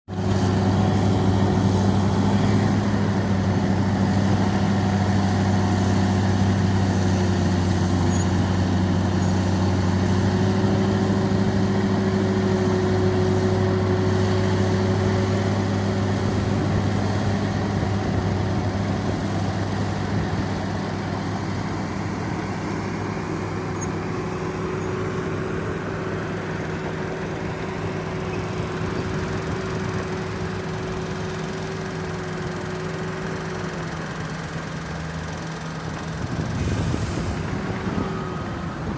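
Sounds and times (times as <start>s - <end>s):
heavy engine droning: 0.1s - 38.9s.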